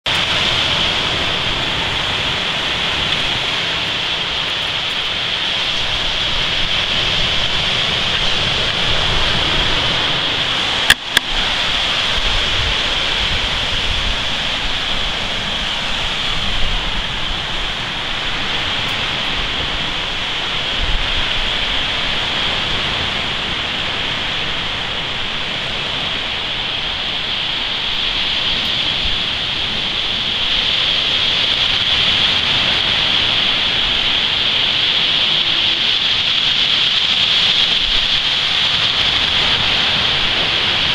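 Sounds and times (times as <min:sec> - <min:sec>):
surf on a beach: 0:00.0 - 0:40.9
continuous high hiss: 0:00.1 - 0:40.9.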